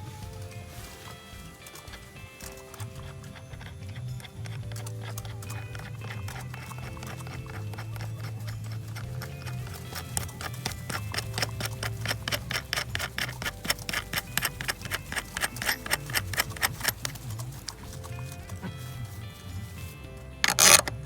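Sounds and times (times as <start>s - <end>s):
ratchet wrench clicking: 1.7s - 18.3s, 20.4s - 21.0s.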